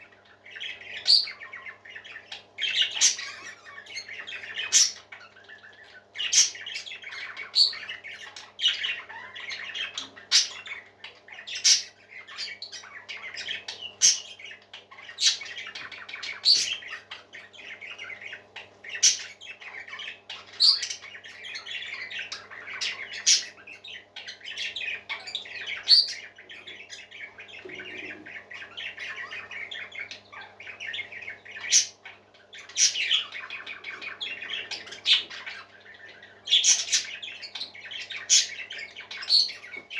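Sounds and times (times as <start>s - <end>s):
parakeet squawking calls: 0.0s - 39.8s
parakeets chattering and warbling: 0.0s - 39.9s.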